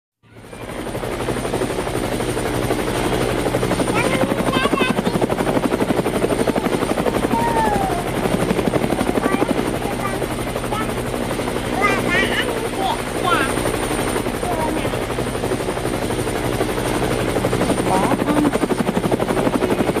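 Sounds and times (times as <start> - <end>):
helicopter rotor chopping: 0.2 - 20.0.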